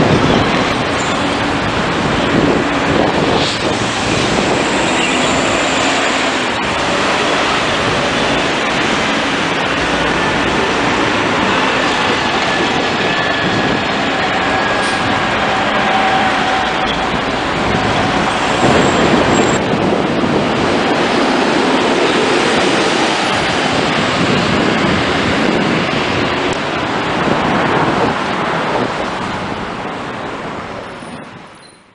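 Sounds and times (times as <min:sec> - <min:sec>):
buses driving by: 0:00.0 - 0:31.9
street traffic: 0:00.0 - 0:31.9.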